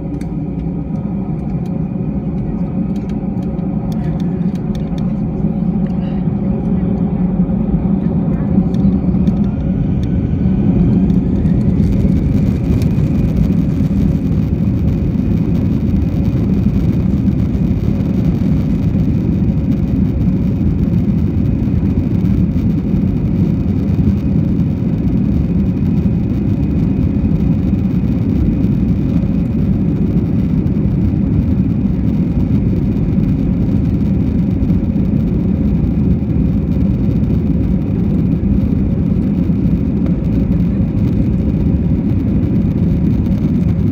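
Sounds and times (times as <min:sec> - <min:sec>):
jet engine whine rising: 0:00.0 - 0:43.9
jet engines roaring: 0:00.0 - 0:43.9.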